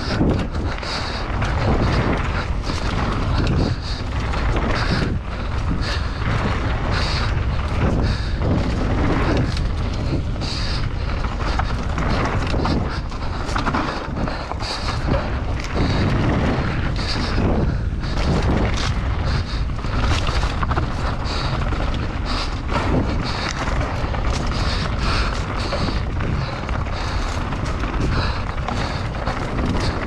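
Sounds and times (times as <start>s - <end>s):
bike tyres rattling over trail: 0.0s - 30.0s
wind buffeting microphone: 0.0s - 30.0s.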